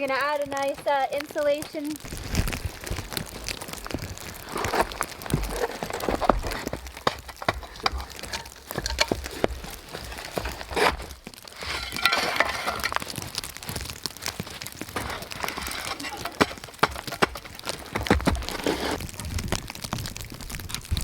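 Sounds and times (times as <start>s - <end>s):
boughs rustling and snapping: 0.0s - 21.0s.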